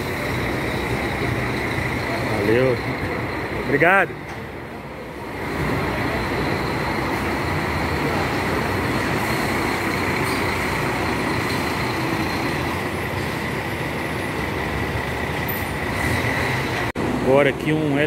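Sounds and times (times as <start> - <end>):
diesel coach passing: 0.0 - 18.0
high-pitched engine whine: 0.0 - 18.0.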